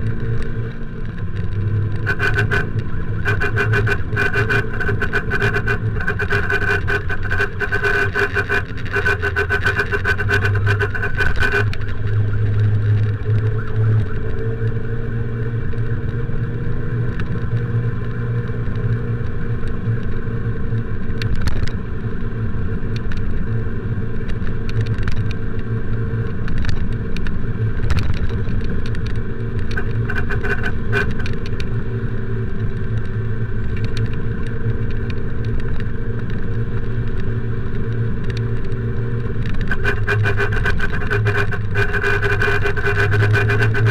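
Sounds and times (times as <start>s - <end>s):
crackle of clicks: 0.0s - 14.8s, 18.8s - 21.8s, 24.2s - 43.9s
motorcycle engine running: 0.0s - 43.9s
road traffic: 0.0s - 43.9s.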